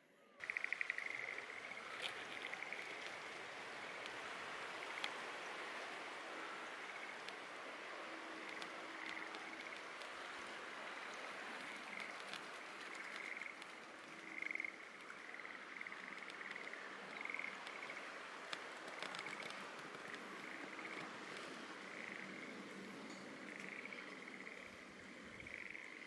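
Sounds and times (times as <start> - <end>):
frogs trilling: 0.4 - 26.0
outdoor hiss: 0.4 - 26.0.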